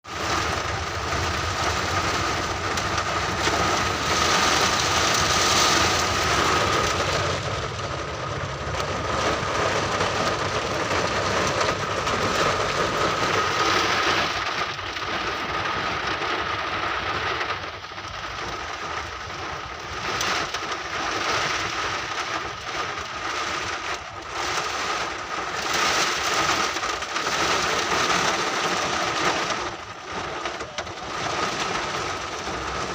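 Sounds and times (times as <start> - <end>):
heavy rain in storm wind: 0.0 - 32.9.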